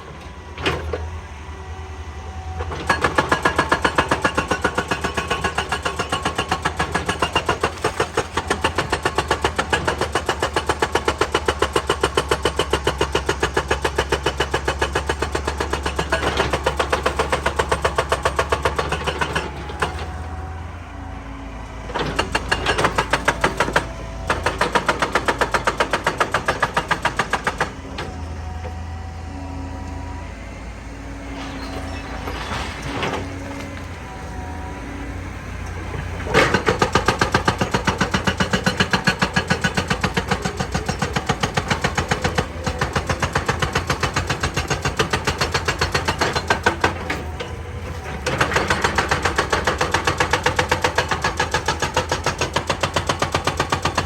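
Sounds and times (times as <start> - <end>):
excavator engine running: 0.0 - 54.0
hydraulic rock breaker hammering: 2.6 - 20.4, 21.8 - 54.0.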